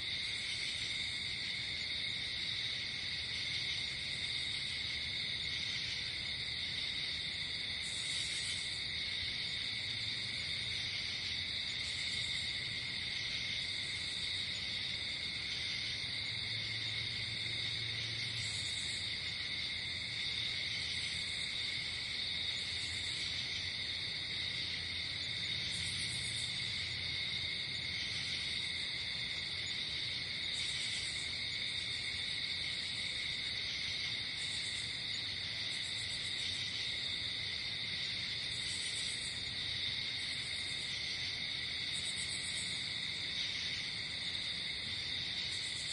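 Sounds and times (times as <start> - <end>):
crickets trilling: 0.0 - 45.9
high insect chirps: 0.1 - 45.9.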